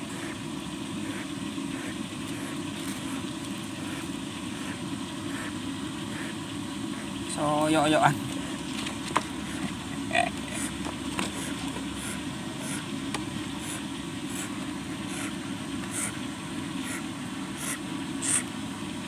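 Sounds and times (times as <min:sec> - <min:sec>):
baby owl hissing calls: 0:00.0 - 0:08.7, 0:09.3 - 0:18.6
low background hum: 0:00.0 - 0:19.0.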